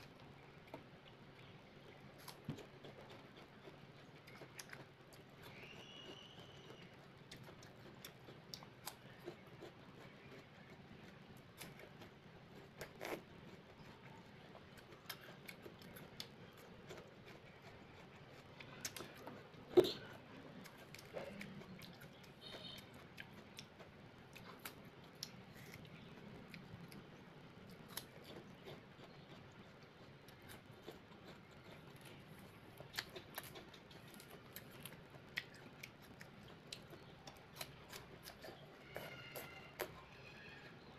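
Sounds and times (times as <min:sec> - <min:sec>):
chewing crisp fruit: 0:00.0 - 0:40.9.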